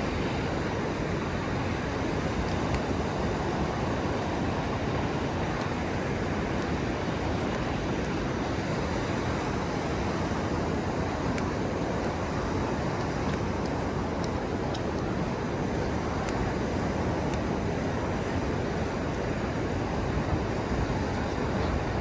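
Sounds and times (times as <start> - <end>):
faint high clicks: 0.0 - 22.0
ocean surf roar: 0.0 - 22.0
wind on microphone: 0.0 - 22.0.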